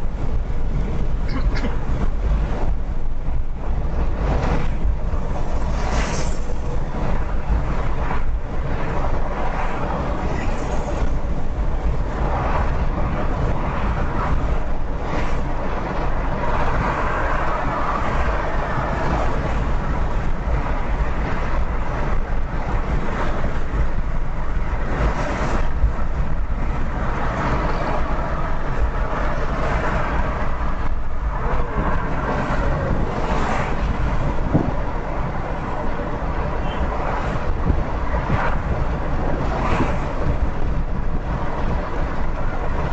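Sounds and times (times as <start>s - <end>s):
car driving at highway speed: 0.0s - 42.9s.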